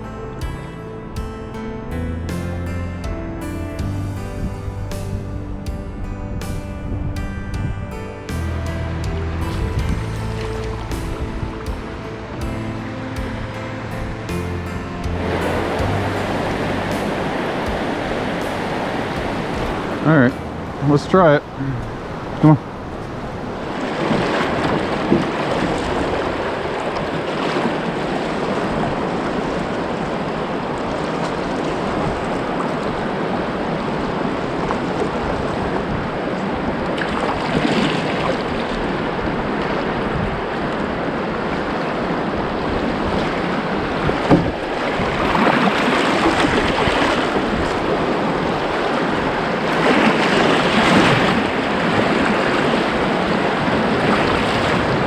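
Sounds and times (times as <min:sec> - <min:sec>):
rushing river whitewater: 0:08.2 - 0:55.0.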